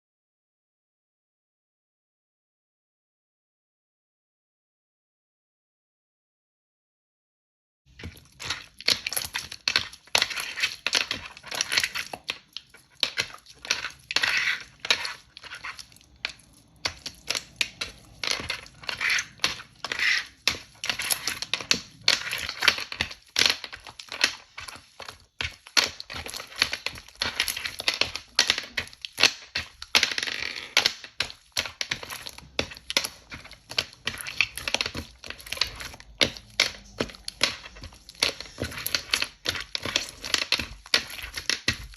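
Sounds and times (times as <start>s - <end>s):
crackling and popping clicks: 8.0s - 41.9s.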